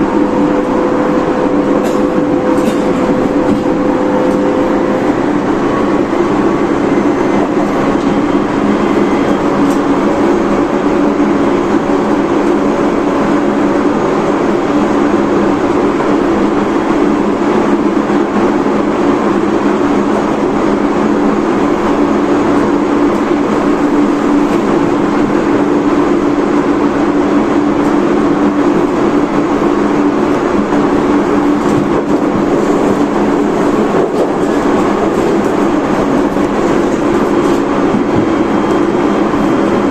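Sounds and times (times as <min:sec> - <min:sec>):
constant low hum: 0:00.0 - 0:39.9
train wheels rumbling on rail: 0:00.0 - 0:39.9.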